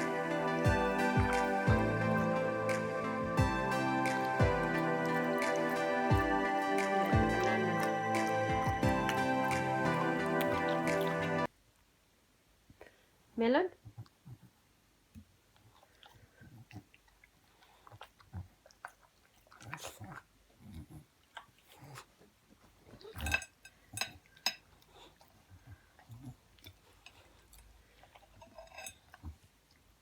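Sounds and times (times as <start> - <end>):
dog chewing with mouth smacks: 0.0 - 11.5, 15.5 - 23.4, 24.1 - 30.0.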